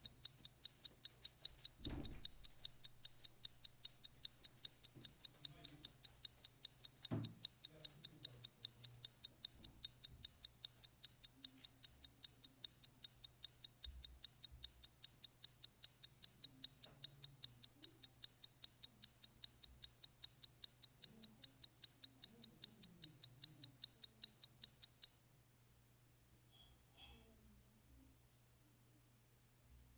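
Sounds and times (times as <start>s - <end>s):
clock-like ticking: 0.0s - 25.2s.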